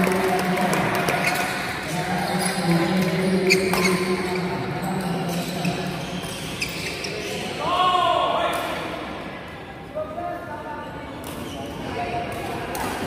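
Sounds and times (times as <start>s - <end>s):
sports hall murmur: 0.0s - 13.0s.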